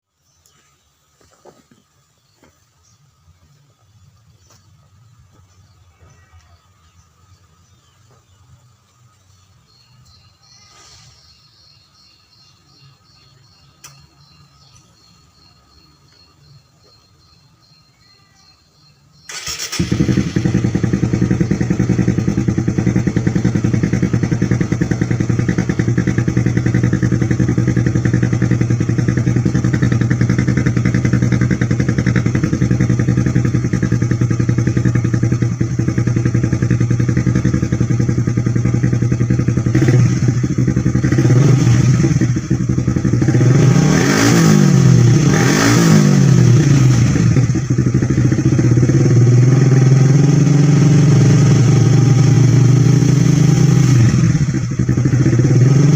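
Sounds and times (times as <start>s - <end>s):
motorcycle engine idling and revving: 1.5s - 55.9s.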